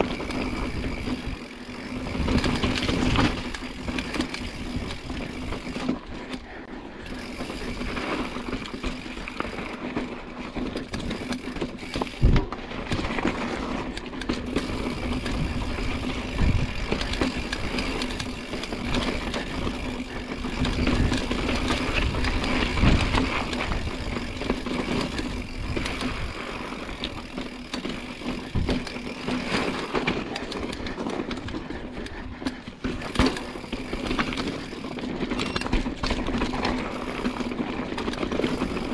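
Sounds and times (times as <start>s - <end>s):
mountain bike rattling on trail: 0.0s - 38.9s.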